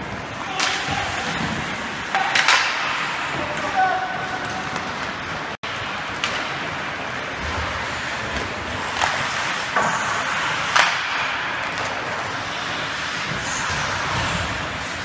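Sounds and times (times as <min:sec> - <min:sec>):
arena noise: 0:00.0 - 0:15.0
hockey sticks clacking on puck: 0:00.3 - 0:05.2, 0:05.8 - 0:15.0.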